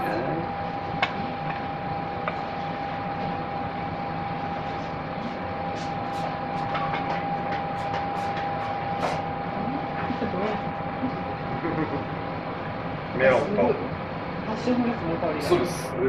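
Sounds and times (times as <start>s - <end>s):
restaurant room hum: 0.0s - 16.0s.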